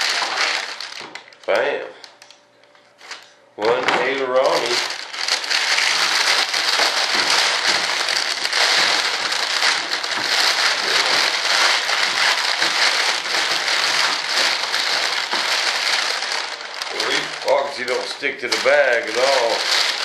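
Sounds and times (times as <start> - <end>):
plastic film crinkling: 0.0 - 20.0.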